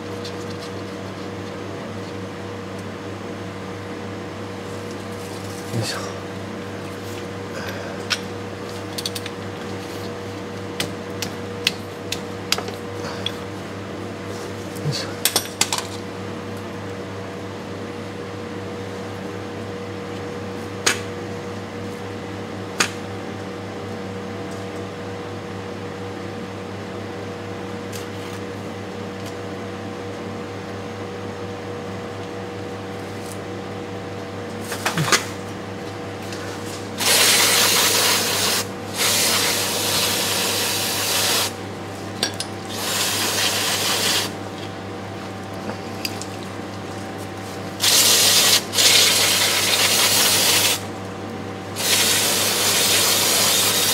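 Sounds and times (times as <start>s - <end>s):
steady low hum: 0.0s - 48.7s.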